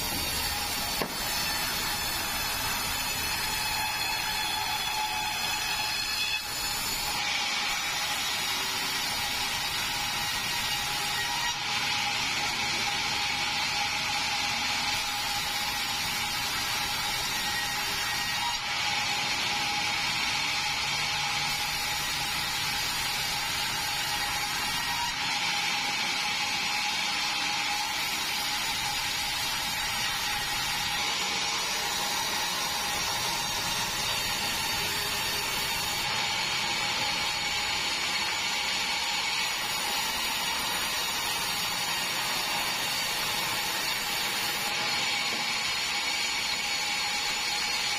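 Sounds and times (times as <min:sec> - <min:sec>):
band saw cutting timber: 0:00.0 - 0:47.9.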